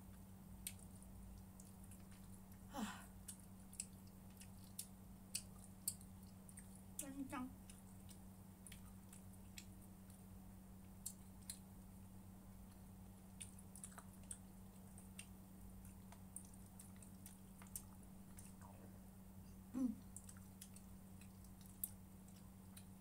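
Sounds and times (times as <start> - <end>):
small eating clicks: 0.0 - 12.0, 12.6 - 18.8, 19.8 - 23.0
low electrical hum: 0.0 - 23.0
chewing mouth noises: 0.6 - 2.6, 3.2 - 7.0, 7.6 - 11.7, 12.6 - 18.8, 20.0 - 23.0.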